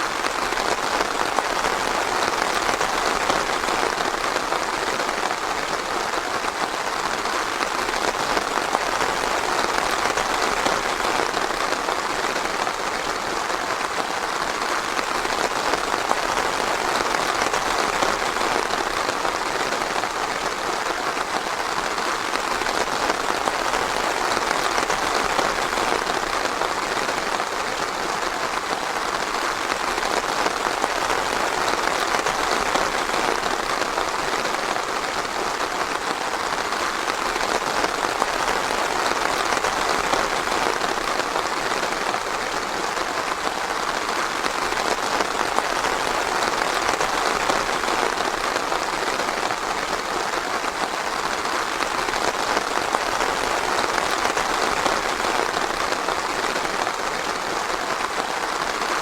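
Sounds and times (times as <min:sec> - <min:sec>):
rain pattering in a forest: 0:00.0 - 0:59.0.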